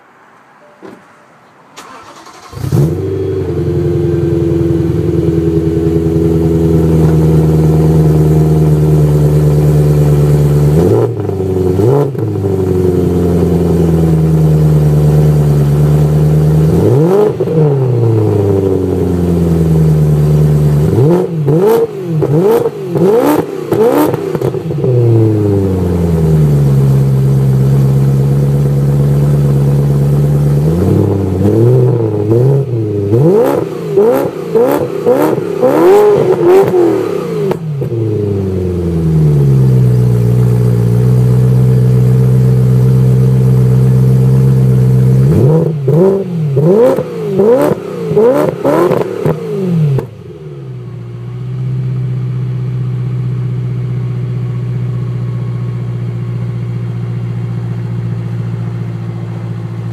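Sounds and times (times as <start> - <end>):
car engine idling: 1.7 - 59.9
engine throttle revs: 1.8 - 50.5.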